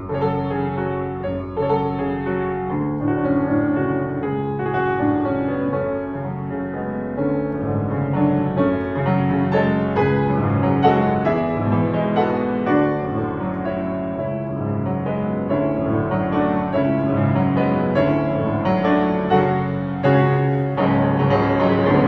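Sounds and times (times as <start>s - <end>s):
solo grand piano: 0.0s - 22.0s.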